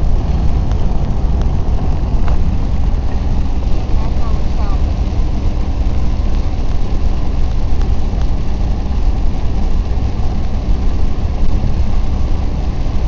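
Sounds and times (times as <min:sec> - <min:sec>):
hiss of rain and wet tyres: 0:00.0 - 0:13.0
road and engine rumble: 0:00.0 - 0:13.0.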